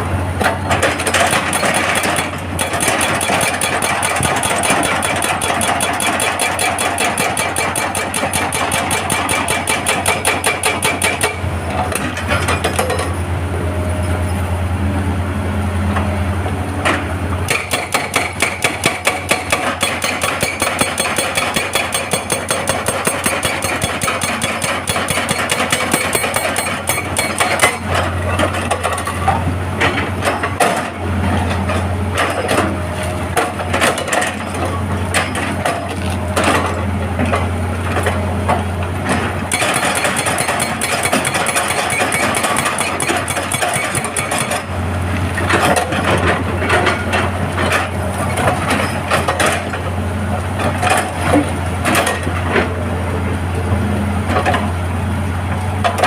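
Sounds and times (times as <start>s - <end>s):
diesel engine hum: 0.0s - 5.9s, 8.4s - 56.0s.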